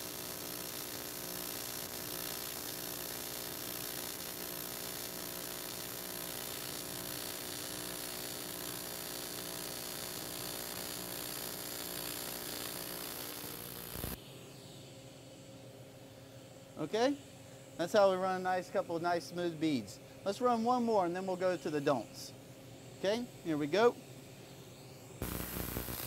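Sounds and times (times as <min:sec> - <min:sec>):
welding arc buzzing hiss: 0:00.0 - 0:26.0.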